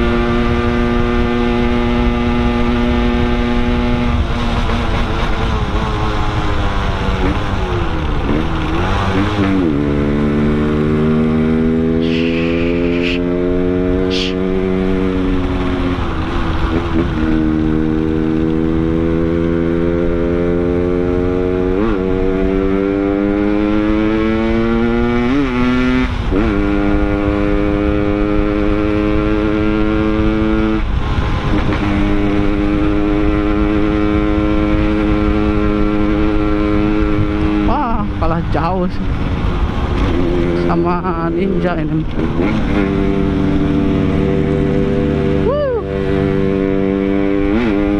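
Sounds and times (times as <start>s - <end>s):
wind noise: 0.0s - 20.4s, 21.0s - 47.9s
motorcycle engine shifting gears: 0.0s - 47.9s.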